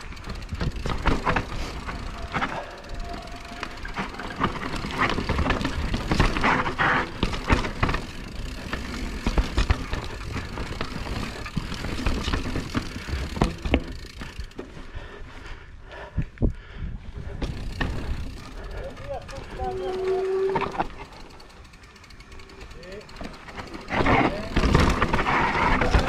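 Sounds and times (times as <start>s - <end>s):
mountain bike rattling over bumps: 0.0s - 15.6s, 17.1s - 26.0s.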